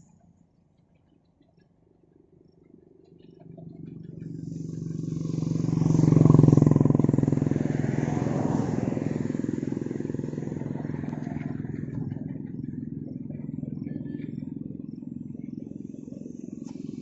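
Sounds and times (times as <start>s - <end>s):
single-cylinder motorcycle engine: 3.0s - 17.0s.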